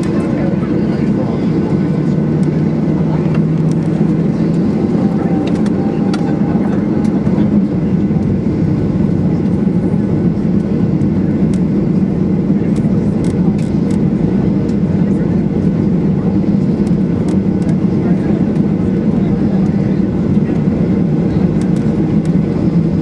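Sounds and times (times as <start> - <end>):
airplane cabin engine rumble: 0.0 - 23.0
low hum: 0.0 - 23.0.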